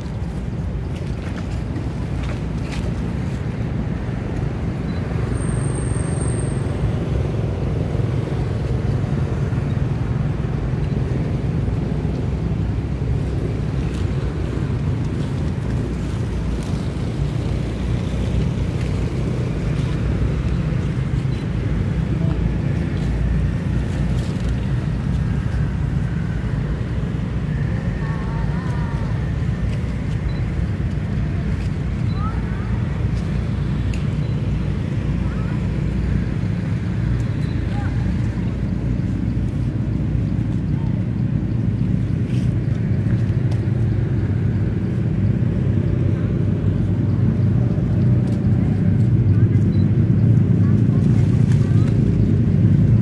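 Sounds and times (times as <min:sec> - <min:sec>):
low rumbling background noise: 0:00.0 - 0:53.0.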